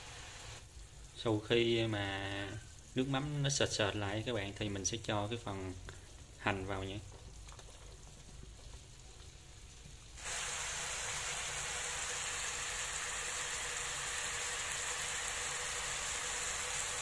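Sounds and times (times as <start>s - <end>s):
glaze sizzling in frying pan: 0.0s - 7.4s, 8.0s - 17.0s.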